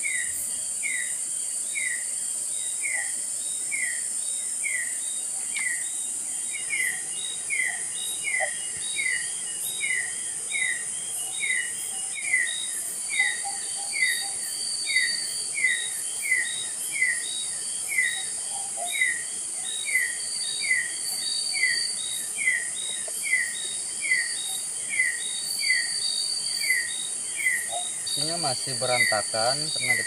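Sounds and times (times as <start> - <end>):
insects high-pitched drone: 0.0 - 30.0.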